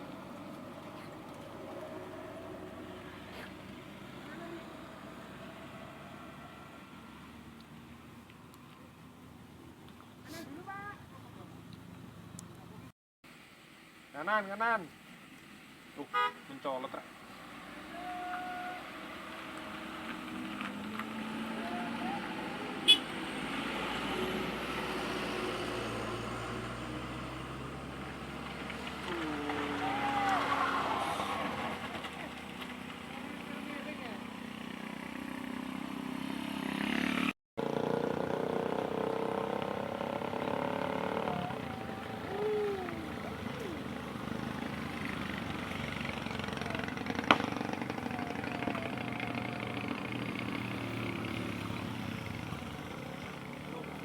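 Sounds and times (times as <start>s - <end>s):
vehicle engine humming: 0.0s - 12.9s, 17.2s - 54.0s
road noise: 0.0s - 54.0s.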